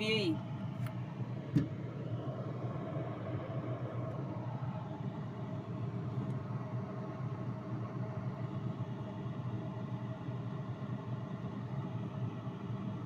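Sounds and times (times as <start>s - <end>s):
refrigerator humming: 0.0s - 13.0s.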